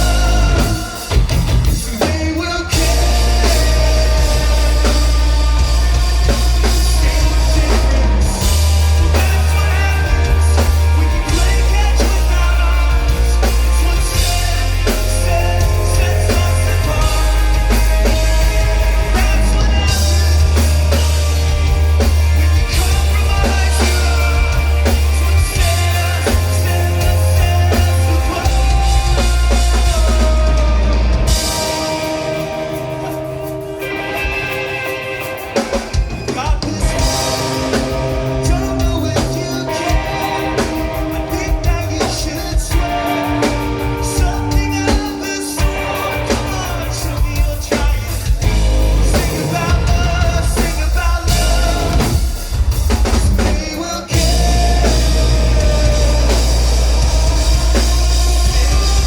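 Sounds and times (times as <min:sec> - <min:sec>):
person singing: 0:00.0 - 0:59.0
rock band playing live: 0:00.0 - 0:59.0.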